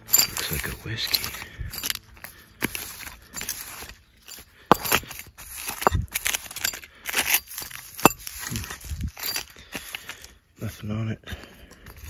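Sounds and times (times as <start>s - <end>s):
gloved hands scraping bottle: 0.0s - 10.0s.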